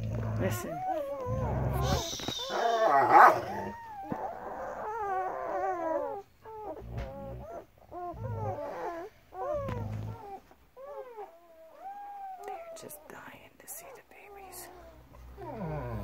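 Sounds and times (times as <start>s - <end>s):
puppies whimpering and squealing: 0.0s - 13.1s, 14.5s - 16.0s.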